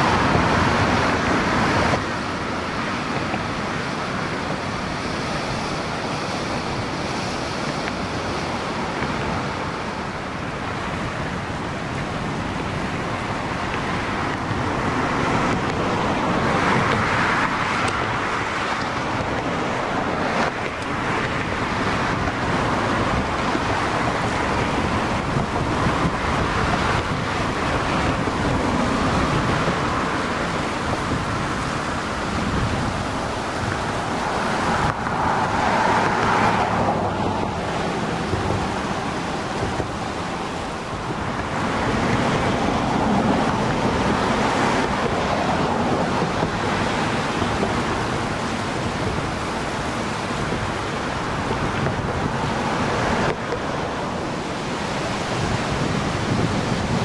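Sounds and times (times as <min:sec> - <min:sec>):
floodwater rushing: 0:00.0 - 0:57.0
wind buffeting microphone: 0:00.0 - 0:57.0.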